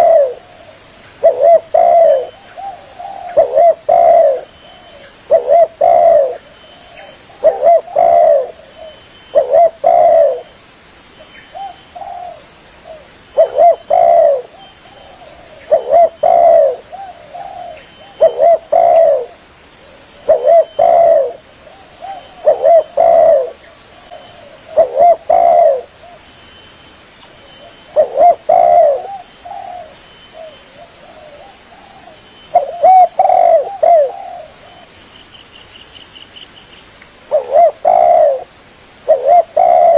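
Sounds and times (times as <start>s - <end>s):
dove cooing: 0.0s - 10.6s, 11.5s - 26.2s, 27.6s - 34.9s, 37.3s - 39.9s.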